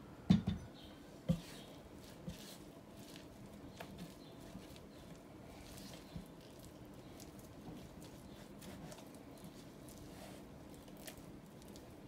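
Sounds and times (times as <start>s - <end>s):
spatula stirring sticky dough: 0.9s - 12.0s.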